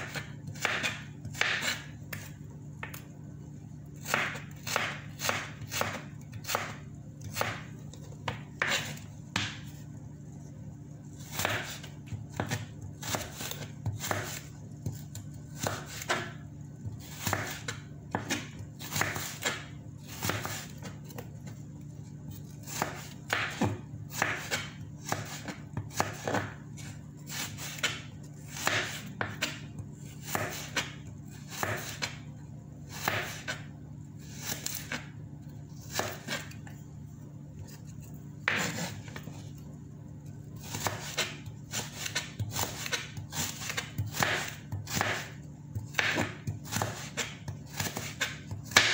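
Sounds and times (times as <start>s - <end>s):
knife slicing carrot on board: 0.0s - 3.0s, 4.0s - 9.7s, 11.2s - 21.2s, 22.3s - 32.2s, 32.9s - 33.7s, 35.8s - 36.6s, 37.7s - 39.4s, 40.6s - 48.9s.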